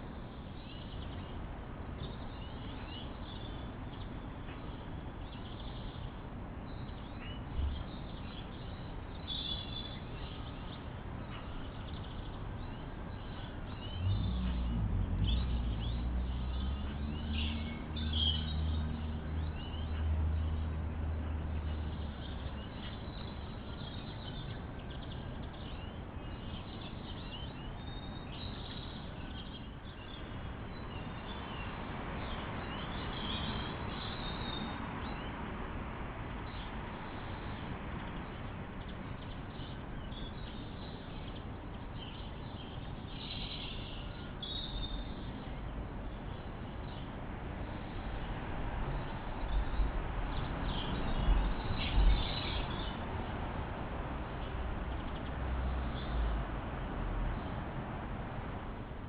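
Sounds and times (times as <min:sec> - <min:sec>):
small birds chirping: 0:00.0 - 0:57.7.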